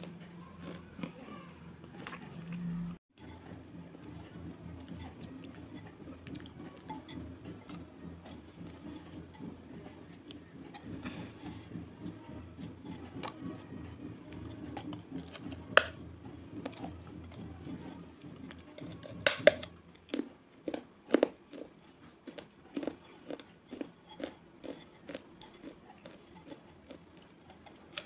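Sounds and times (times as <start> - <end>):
chewing and crunching: 0.0 - 28.0.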